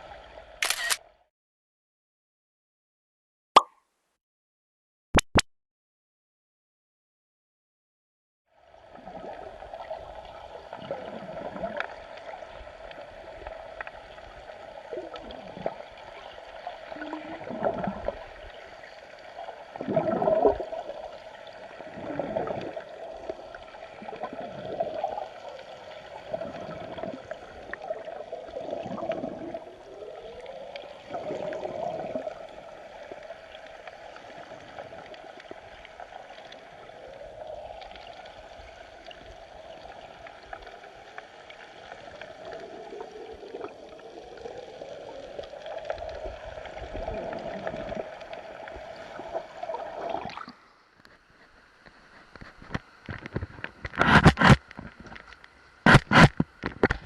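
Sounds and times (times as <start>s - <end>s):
muffled underwater river rush: 8.6s - 57.0s.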